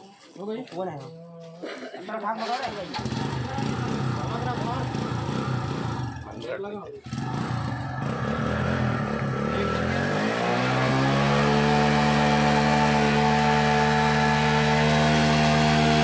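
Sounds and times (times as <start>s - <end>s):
engine being spun over: 2.4s - 6.4s, 7.0s - 16.0s
motorcycle engine revving: 2.4s - 16.0s.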